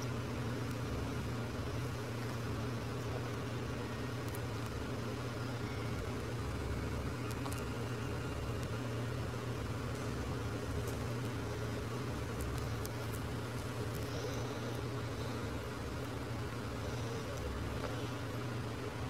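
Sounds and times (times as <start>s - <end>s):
background hiss: 0.0s - 19.0s
faint ticks: 0.0s - 19.0s
low hum: 0.0s - 19.0s.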